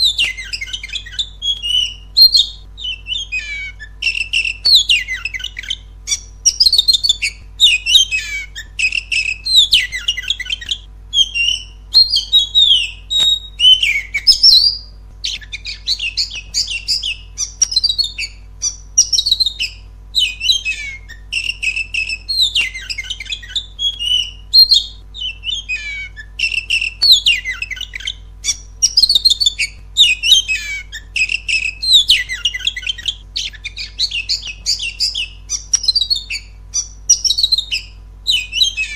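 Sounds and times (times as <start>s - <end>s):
bird singing whistles and trills: 0.0s - 38.9s
faint low hum: 0.0s - 38.9s.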